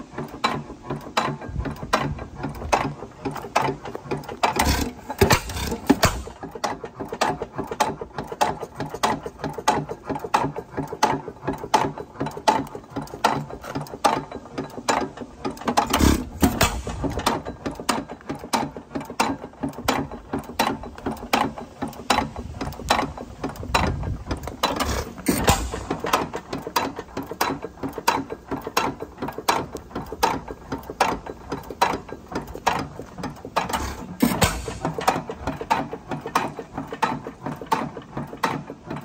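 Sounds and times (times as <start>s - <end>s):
engine firing thuds: 0.0s - 39.0s
stationary engine clattering: 0.0s - 39.0s.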